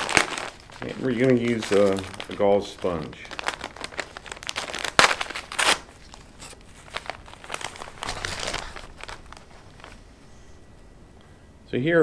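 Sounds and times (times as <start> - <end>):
paper wrapper crinkling: 0.0 - 10.2.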